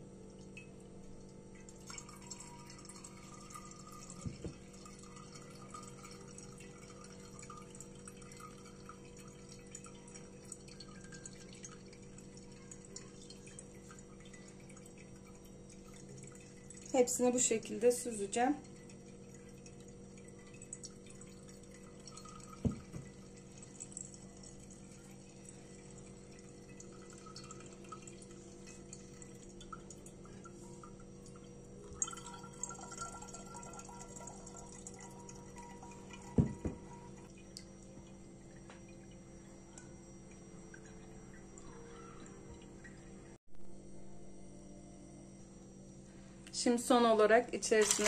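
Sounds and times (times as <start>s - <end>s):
juice dripping into a pitcher: 0.0s - 43.4s, 47.6s - 48.0s
steady low hum: 0.0s - 47.8s.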